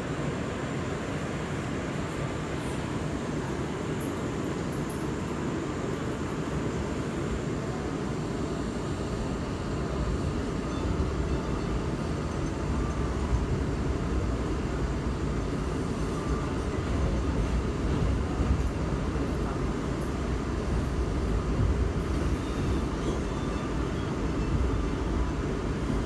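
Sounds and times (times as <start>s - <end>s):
subway car rumbling: 0.0s - 26.0s.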